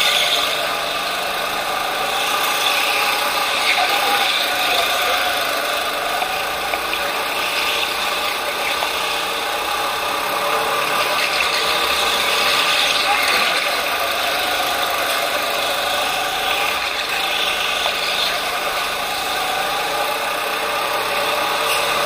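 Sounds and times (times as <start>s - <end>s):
go-kart motor drone: 0.0s - 22.0s.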